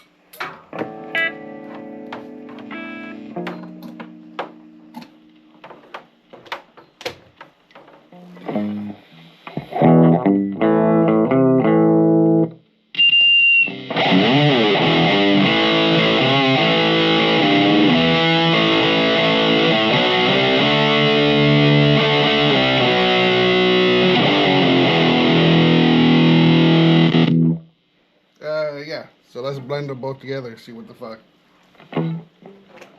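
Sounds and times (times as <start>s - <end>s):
distorted electric guitar: 0.0s - 6.6s, 7.8s - 27.8s, 31.8s - 32.9s.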